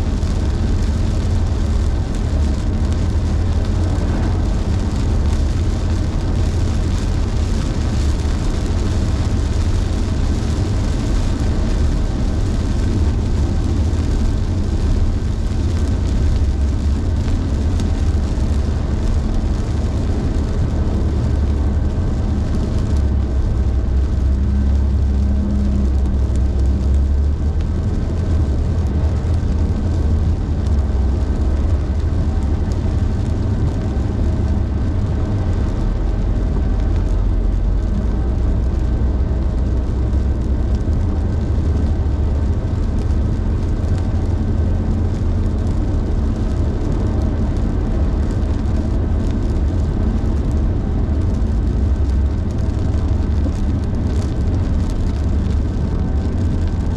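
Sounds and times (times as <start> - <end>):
car road rumble: 0.0 - 56.9
rain and tyres on wet pavement: 0.0 - 56.9.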